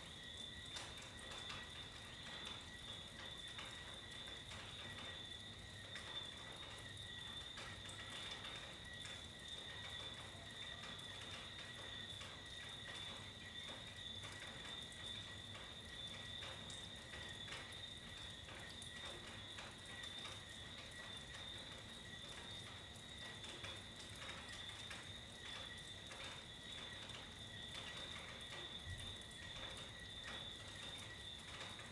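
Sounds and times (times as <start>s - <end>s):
raindrops pattering: 0.2s - 31.9s.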